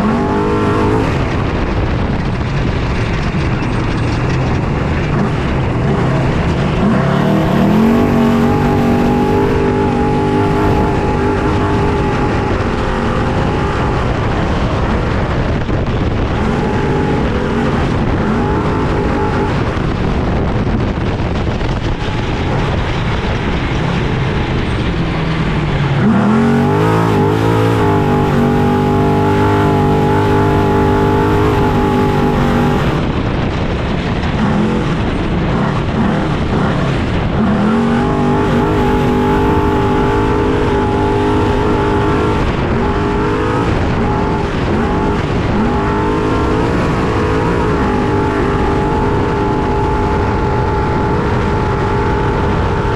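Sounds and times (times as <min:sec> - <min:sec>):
rough ride noise: 0:00.0 - 0:52.9
truck engine revving: 0:00.0 - 0:52.9.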